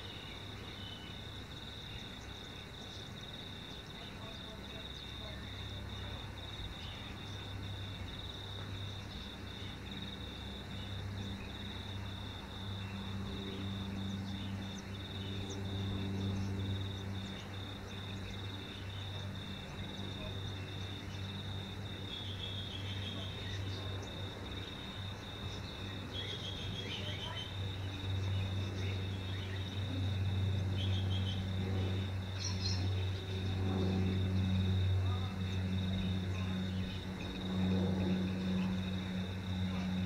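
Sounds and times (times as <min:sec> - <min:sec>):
insects trilling: 0:00.0 - 0:40.0
propeller aircraft drone: 0:00.0 - 0:40.0.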